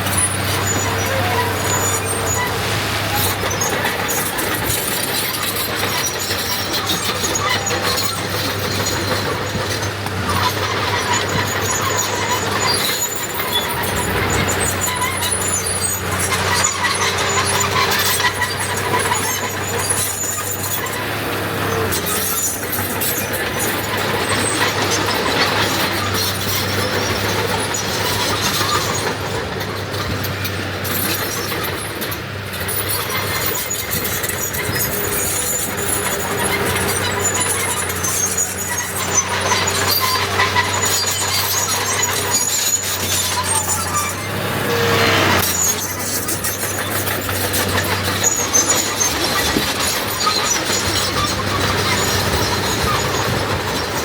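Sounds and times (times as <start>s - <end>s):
diesel engine running: 0.0s - 54.0s
metallic squealing and clanking: 0.0s - 54.0s.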